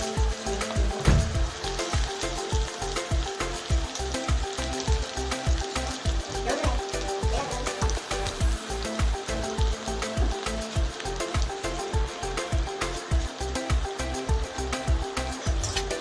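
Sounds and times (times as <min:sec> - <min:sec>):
background music with fast beat: 0:00.0 - 0:16.0
food sizzling in a pan: 0:00.0 - 0:16.0.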